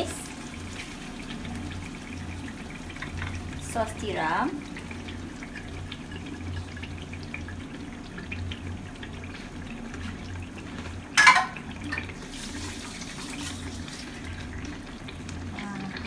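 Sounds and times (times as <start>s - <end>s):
chili paste sizzling in oil: 0.0s - 16.0s
low steady hum: 0.0s - 16.0s.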